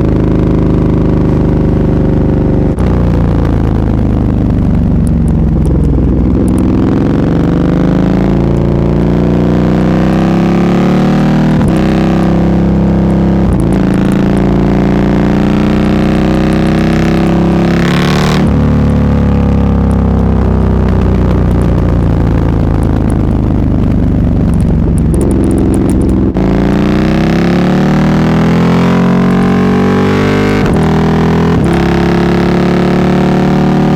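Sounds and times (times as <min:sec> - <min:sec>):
exhaust crackle: 0:00.0 - 0:33.1
motorcycle engine revving: 0:00.0 - 0:33.9.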